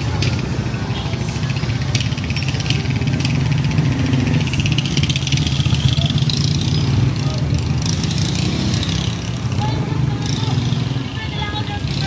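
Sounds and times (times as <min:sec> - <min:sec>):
street noise: 0:00.0 - 0:12.0
vehicle engine rattling hum: 0:00.0 - 0:12.0.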